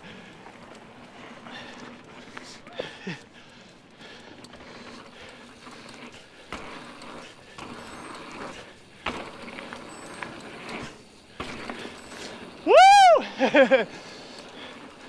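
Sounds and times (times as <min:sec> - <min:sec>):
bike tyres rolling on dirt: 0:00.0 - 0:15.0.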